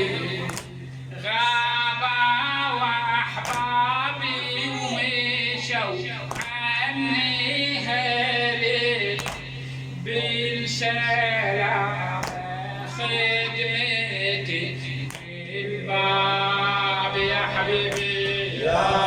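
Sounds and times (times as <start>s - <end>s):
man singing a mournful chant: 0.0s - 19.0s
steady low hum: 0.0s - 19.0s.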